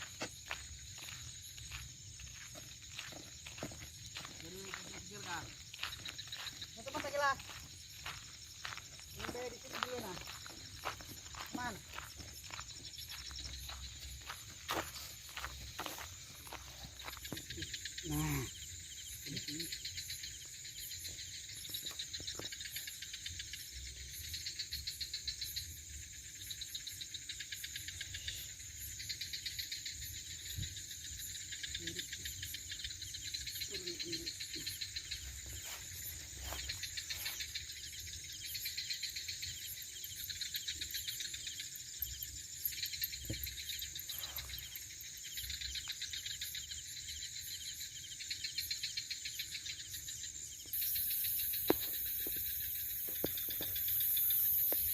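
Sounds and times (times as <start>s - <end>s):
night insects chirping: 0.0s - 54.9s.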